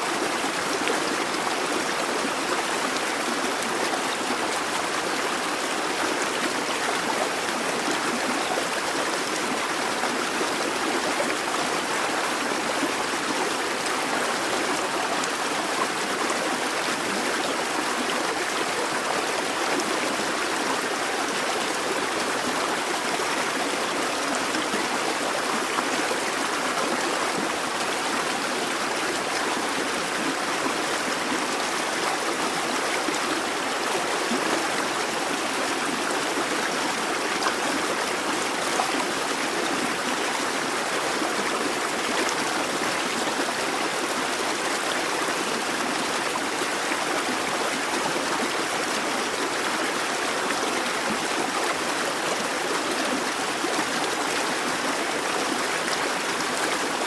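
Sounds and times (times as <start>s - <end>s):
brook water running over stones: 0.0s - 57.0s.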